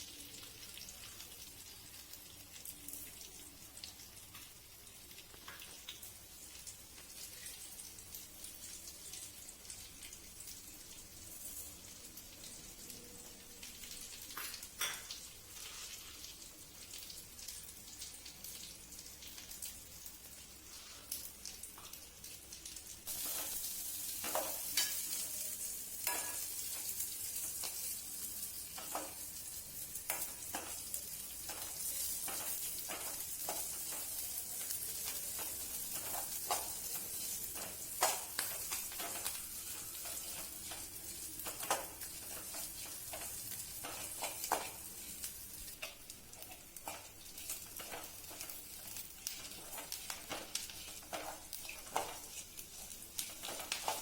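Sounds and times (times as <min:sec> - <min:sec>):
food frying in hot oil: 0:00.0 - 0:54.0.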